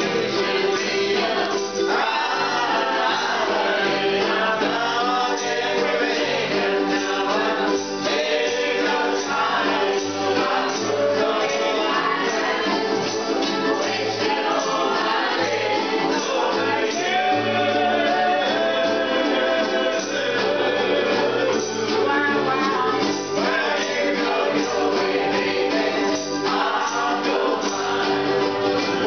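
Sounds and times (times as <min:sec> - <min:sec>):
group singing along: 0:00.0 - 0:29.0
ukuleles and guitar strummed: 0:00.0 - 0:29.0.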